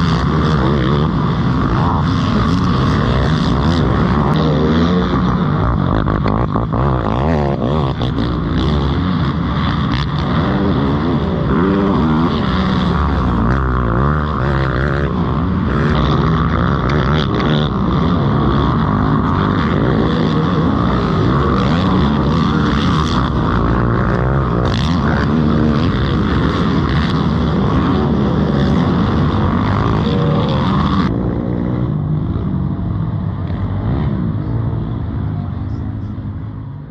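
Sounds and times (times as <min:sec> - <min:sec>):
quad bike engines revving: 0:00.0 - 0:36.9.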